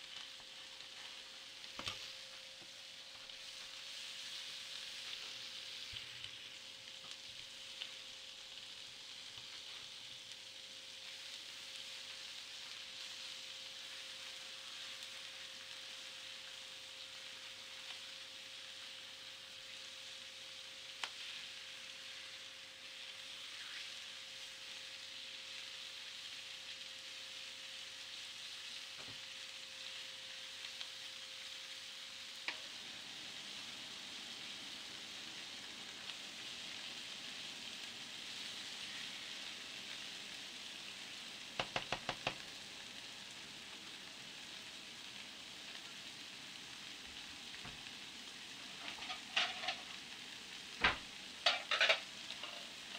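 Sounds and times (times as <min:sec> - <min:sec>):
sizzling hiss: 0:00.0 - 0:52.9.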